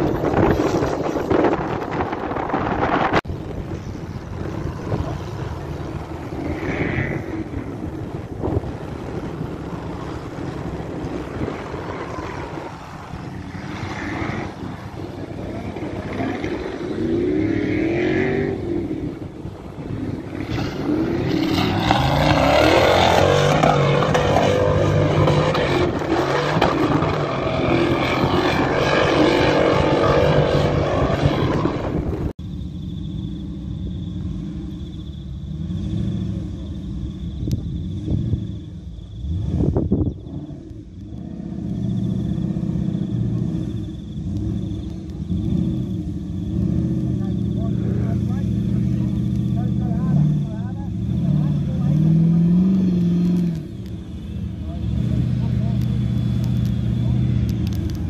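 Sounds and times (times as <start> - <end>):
buggy engine revving hard: 4.4 - 32.4, 35.4 - 36.8, 37.7 - 58.0.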